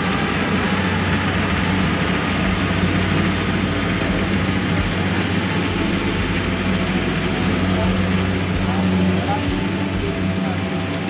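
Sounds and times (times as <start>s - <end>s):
combine harvester engine hum: 0.0s - 11.0s
machine noise: 0.0s - 11.0s.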